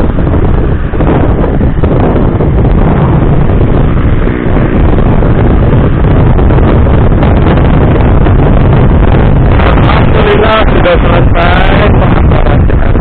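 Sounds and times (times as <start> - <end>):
motorcycle engine: 0.0 - 13.0
road noise: 0.0 - 13.0
wind buffeting microphone: 0.0 - 13.0.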